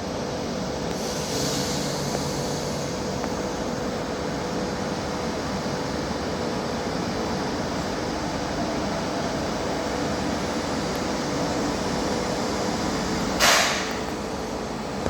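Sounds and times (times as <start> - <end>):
thin steady whine: 0.0 - 15.0
train running rumble and hiss: 0.0 - 15.0.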